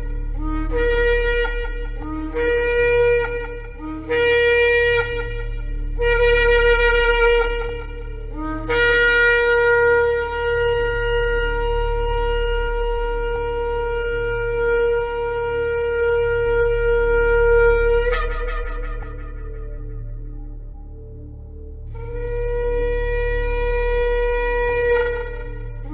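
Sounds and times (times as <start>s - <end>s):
shofar blasts: 0.0s - 25.9s
steady low hum: 0.0s - 25.9s.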